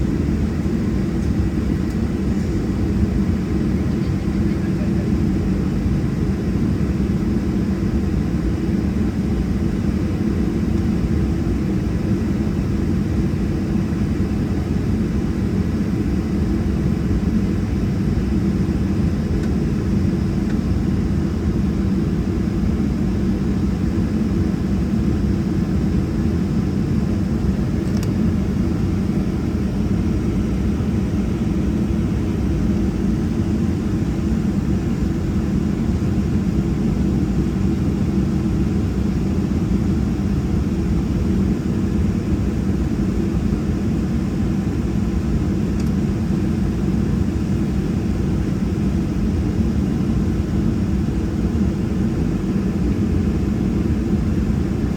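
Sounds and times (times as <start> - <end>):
airplane cabin drone: 0.0 - 54.9
jet engines idling: 0.0 - 54.9.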